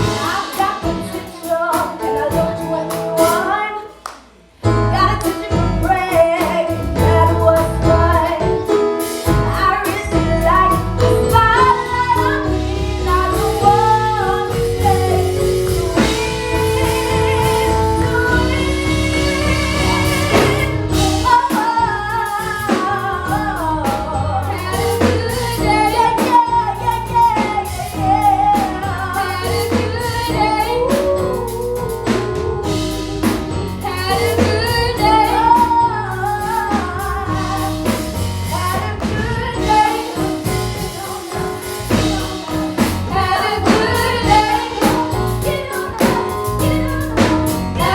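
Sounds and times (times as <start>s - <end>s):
band with drums and guitar: 0.0s - 47.9s
woman singing gospel song: 0.0s - 47.9s.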